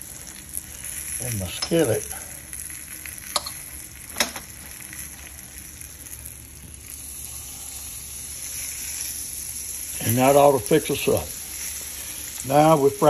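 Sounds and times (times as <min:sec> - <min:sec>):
patties sizzling in oil: 0:00.0 - 0:13.0.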